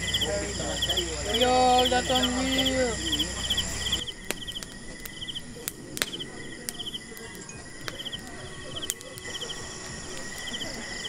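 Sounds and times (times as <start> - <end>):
crickets chirping: 0.0 - 11.0
wood fire crackling: 0.0 - 11.0.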